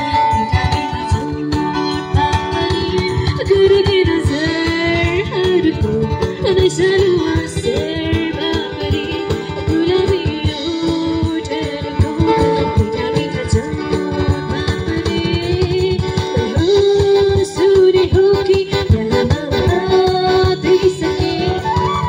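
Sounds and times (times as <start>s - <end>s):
electric guitar: 0.0s - 22.0s
person singing: 0.0s - 22.0s
steady drum beat: 0.0s - 22.0s.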